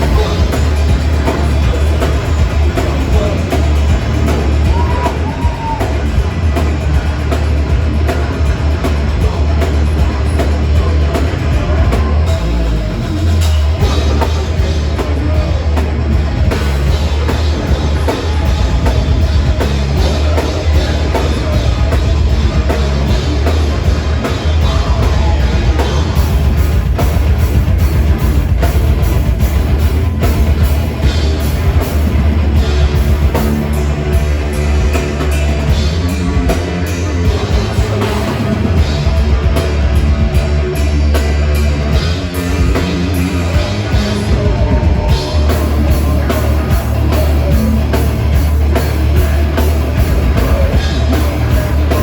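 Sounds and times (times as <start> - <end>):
heavy metal band playing live: 0.0 - 52.0.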